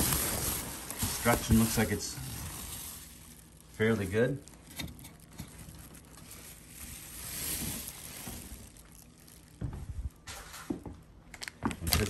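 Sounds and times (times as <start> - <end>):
packing material rustling: 0.0 - 10.7, 11.4 - 12.0.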